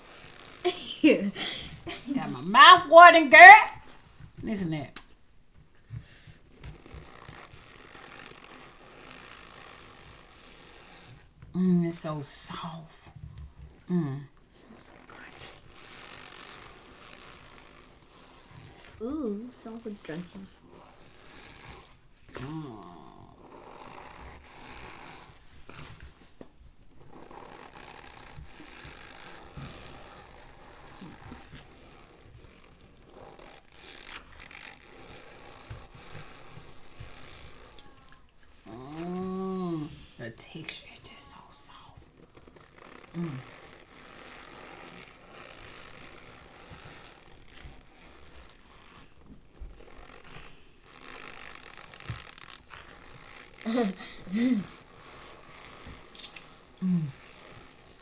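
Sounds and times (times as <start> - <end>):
hands squeezing cornstarch: 0.0 - 2.0, 5.8 - 11.5, 14.7 - 39.2, 39.8 - 58.0.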